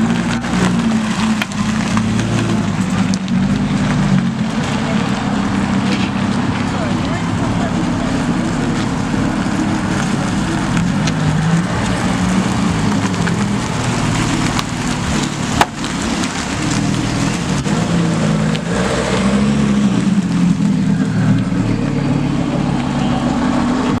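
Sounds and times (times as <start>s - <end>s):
car engines running: 0.0s - 24.0s.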